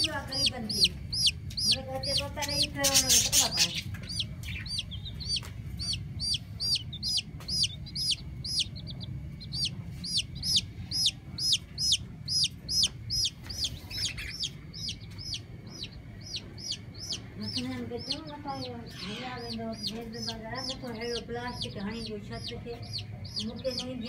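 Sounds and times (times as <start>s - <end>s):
baby chicks peeping: 0.0s - 24.0s
low steady rumble: 0.0s - 24.0s.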